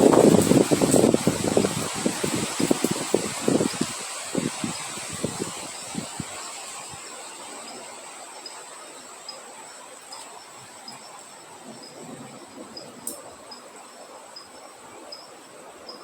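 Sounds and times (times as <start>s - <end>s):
insect trill: 0.0s - 16.0s
wind hissing: 0.0s - 16.0s.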